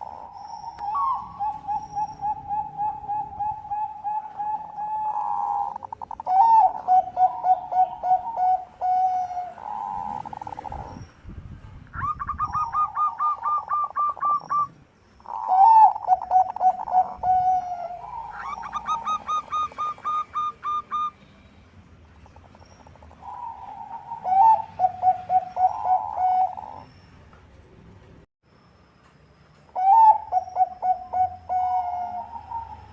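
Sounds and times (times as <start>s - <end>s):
doves cooing: 0.0s - 11.0s, 12.0s - 21.1s, 22.2s - 26.9s, 29.8s - 32.9s.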